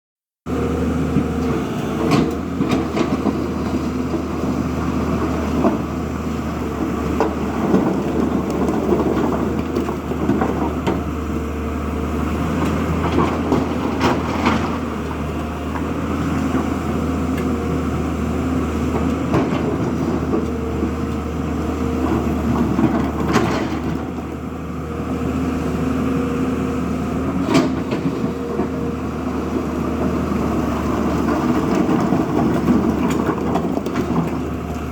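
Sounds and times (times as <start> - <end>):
diesel machinery running: 0.5 - 34.9.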